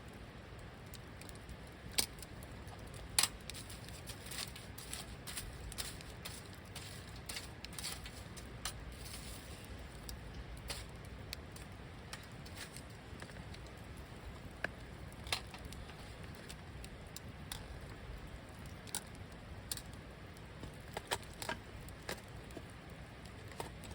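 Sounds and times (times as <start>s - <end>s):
low steady rumble: 0.0s - 20.7s
campfire crackling: 0.0s - 23.9s.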